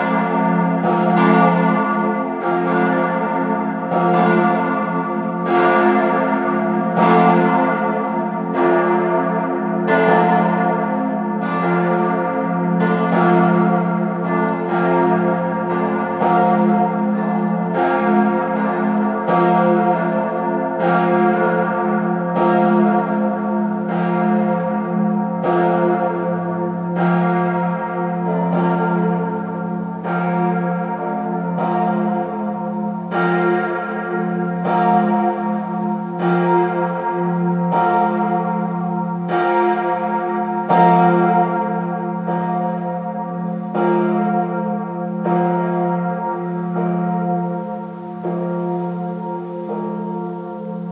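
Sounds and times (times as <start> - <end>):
church bells ringing: 0.0 - 50.9
deep hum of large bells: 0.0 - 50.9.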